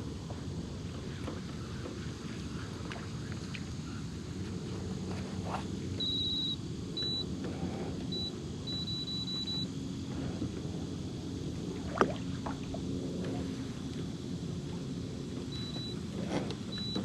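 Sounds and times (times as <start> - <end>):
electric trolling motor humming: 0.0 - 17.0.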